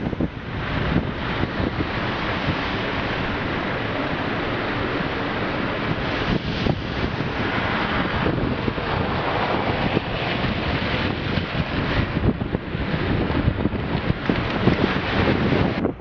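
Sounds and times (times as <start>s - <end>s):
rough surf rushing: 0.0s - 16.0s
wind buffeting microphone: 0.0s - 16.0s.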